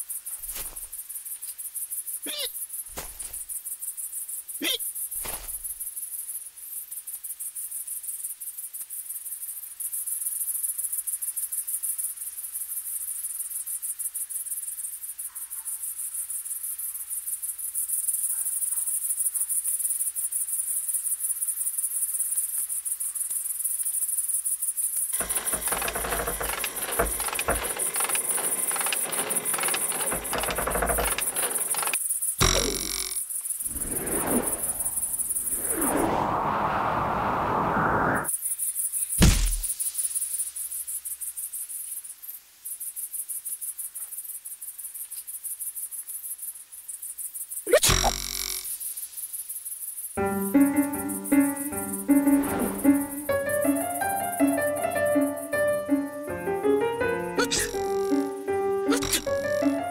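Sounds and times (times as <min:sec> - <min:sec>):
insects chirring: 0:00.0 - 0:36.8, 0:38.2 - 0:59.9.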